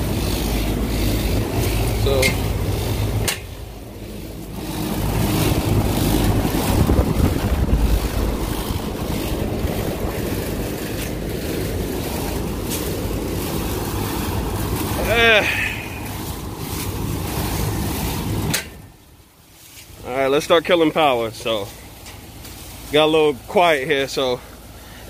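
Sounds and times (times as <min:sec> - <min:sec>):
air conditioning units whirring: 0:00.0 - 0:25.0.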